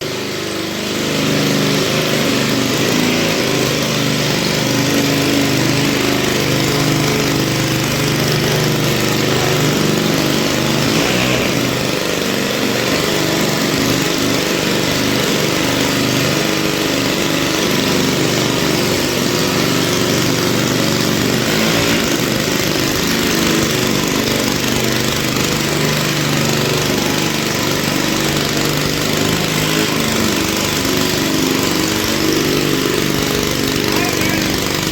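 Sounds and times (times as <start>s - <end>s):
small petrol engine running: 0.0s - 34.9s.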